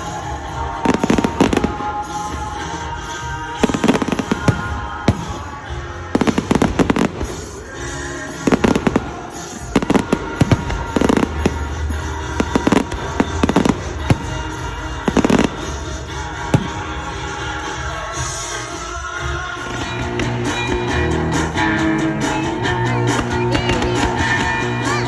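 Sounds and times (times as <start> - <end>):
background music: 0.0 - 25.0
fireworks banging: 0.0 - 25.0.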